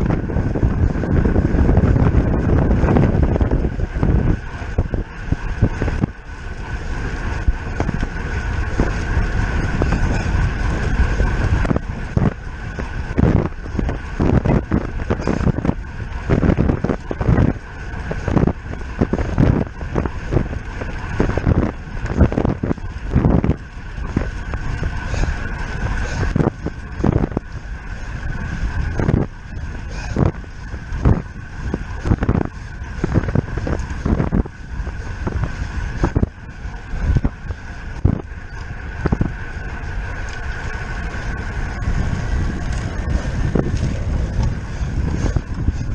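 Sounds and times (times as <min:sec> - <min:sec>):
gusty thumps: 0:00.0 - 0:45.9
steady high hum: 0:00.0 - 0:45.9
wind buffeting microphone: 0:00.0 - 0:45.9.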